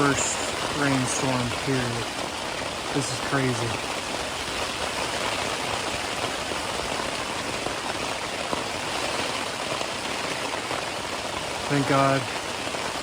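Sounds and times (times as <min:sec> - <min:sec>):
heavy rain on tent fabric: 0:00.0 - 0:13.0.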